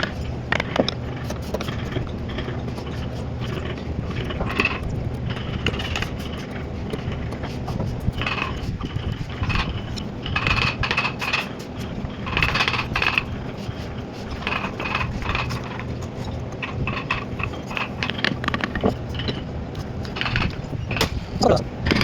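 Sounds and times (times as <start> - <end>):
metal hand tools clinking and scraping: 0.0 - 21.1
steady low hum: 0.0 - 22.0.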